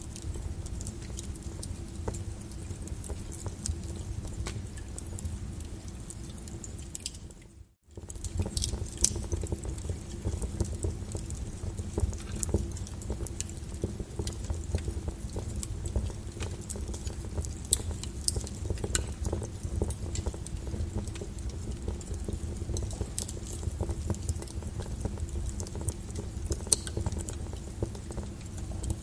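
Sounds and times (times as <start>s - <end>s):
fireplace crackling and popping: 0.0s - 29.0s.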